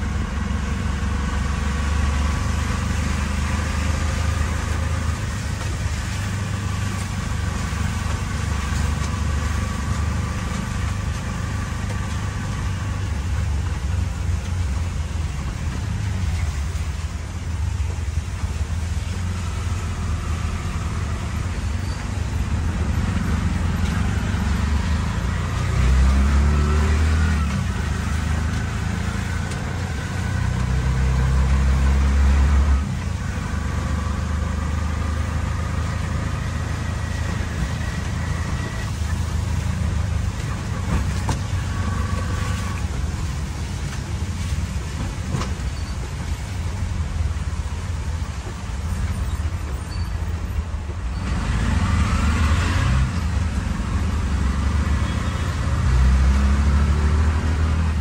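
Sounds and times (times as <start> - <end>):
rickshaw engine rumbling: 0.0 - 58.0
road and traffic noise: 0.0 - 58.0.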